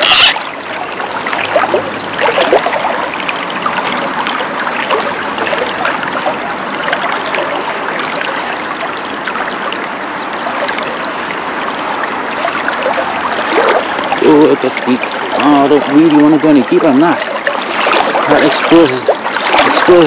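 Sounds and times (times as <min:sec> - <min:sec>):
river water running: 0:00.0 - 0:20.0
small splashes: 0:00.0 - 0:20.0.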